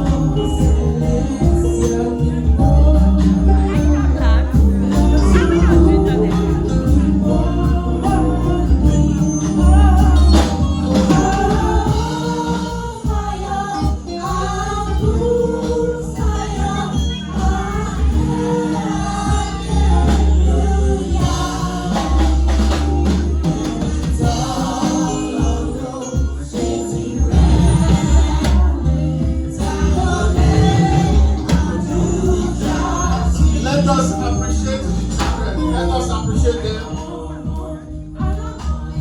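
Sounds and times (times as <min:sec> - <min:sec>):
children's choir singing: 0:00.0 - 0:39.0
instrumental accompaniment with bass: 0:00.0 - 0:39.0.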